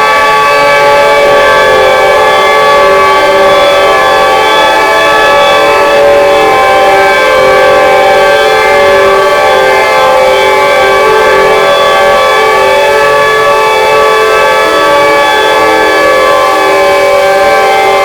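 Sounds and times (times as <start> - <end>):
synthesizer drone chord: 0.0 - 18.0.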